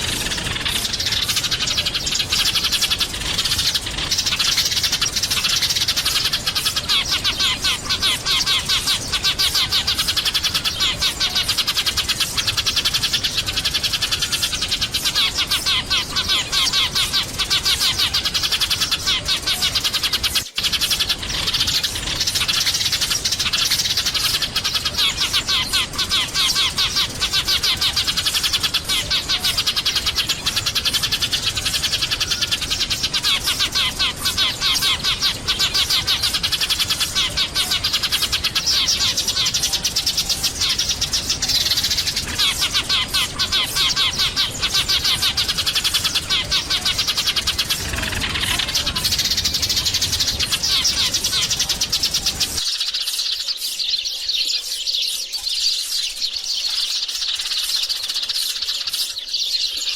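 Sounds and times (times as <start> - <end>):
sparrows chirping: 0.0 - 59.9.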